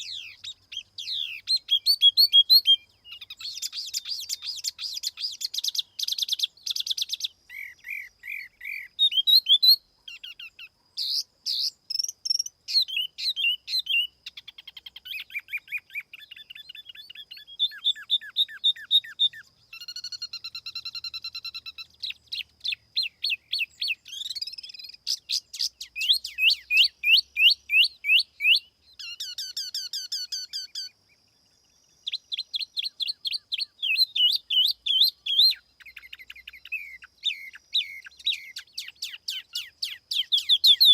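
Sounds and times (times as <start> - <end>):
songbird singing whistles and trills: 0.0 - 40.9.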